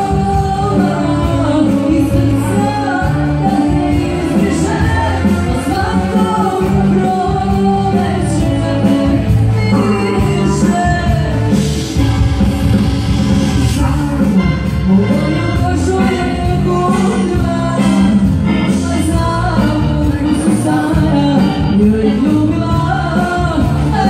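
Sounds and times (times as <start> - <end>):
accordion: 0.0 - 22.8
folk dance music: 0.0 - 24.0
keyboard: 0.0 - 24.0.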